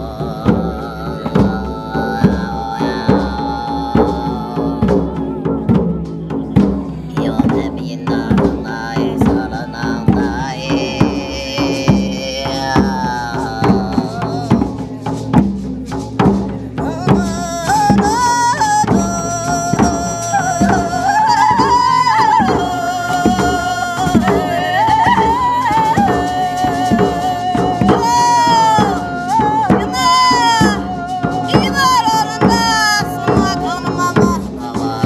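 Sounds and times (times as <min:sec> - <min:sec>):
woman singing long held notes: 0:00.0 - 0:06.2, 0:07.0 - 0:15.0, 0:16.8 - 0:35.0
frame drum beaten: 0:00.0 - 0:35.0.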